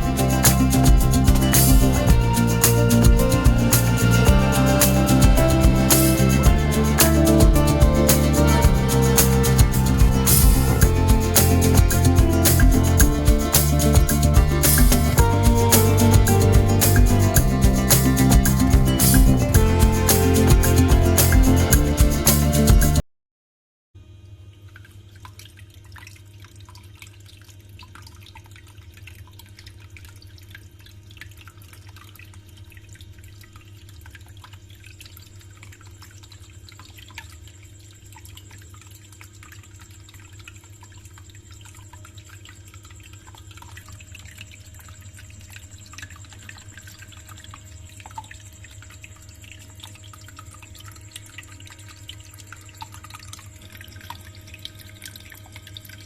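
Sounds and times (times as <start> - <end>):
small water pump humming: 0.0 - 23.0, 24.0 - 56.0
water trickling and dripping: 0.0 - 23.0, 24.4 - 56.0.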